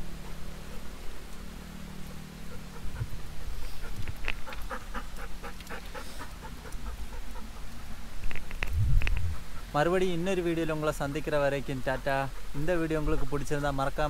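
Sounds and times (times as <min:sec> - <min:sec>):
dog panting: 0:01.6 - 0:08.0, 0:09.1 - 0:14.0.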